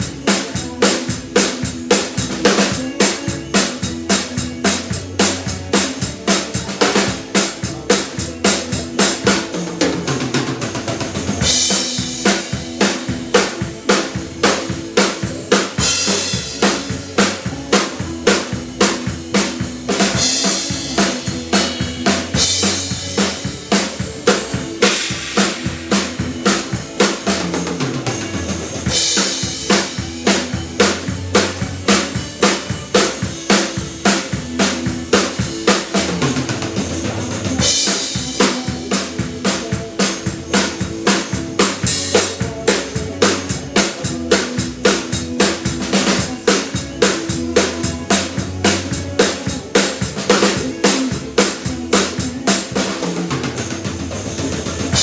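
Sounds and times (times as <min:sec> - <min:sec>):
drum kit groove: 0:00.0 - 0:55.0.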